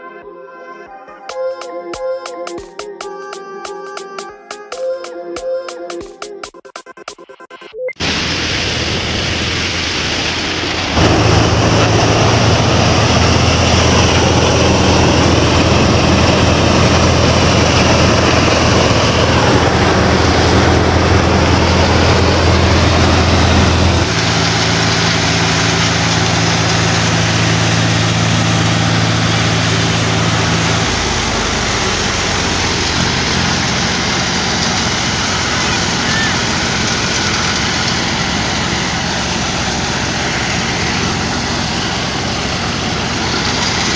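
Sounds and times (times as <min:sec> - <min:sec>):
thresher threshing noise: 0:07.0 - 0:43.9
tractor diesel engine running: 0:08.0 - 0:43.9.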